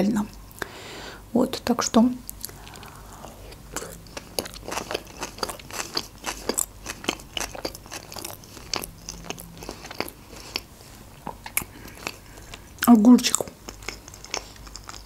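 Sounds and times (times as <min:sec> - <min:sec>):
person chewing crunchy food: 0:02.3 - 0:15.0.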